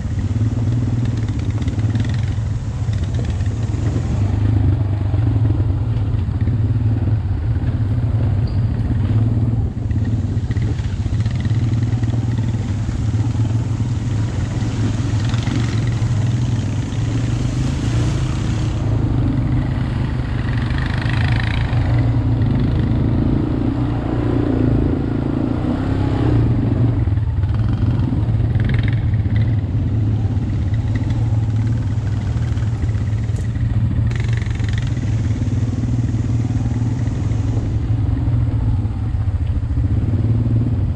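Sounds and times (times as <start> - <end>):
atv engine humming: 0.0 - 40.9.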